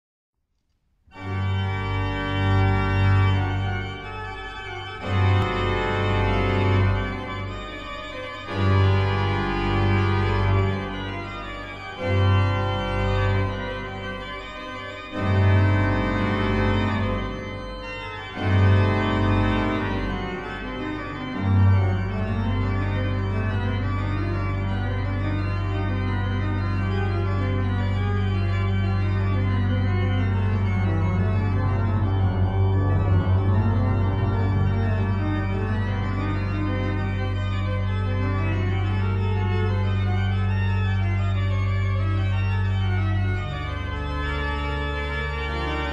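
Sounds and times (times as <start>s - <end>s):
organ chords: 1.1s - 45.9s.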